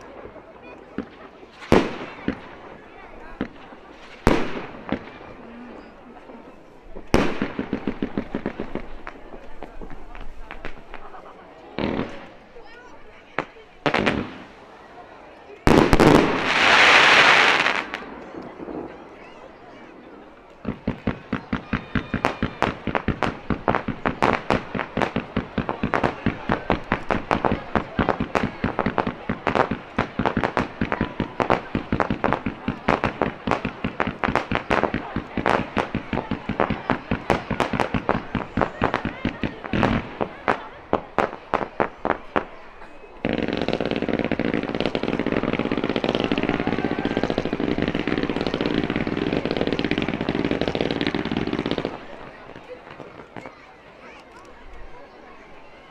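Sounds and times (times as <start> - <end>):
firework bangs: 0.0 - 55.9
firework crackle: 0.0 - 55.9.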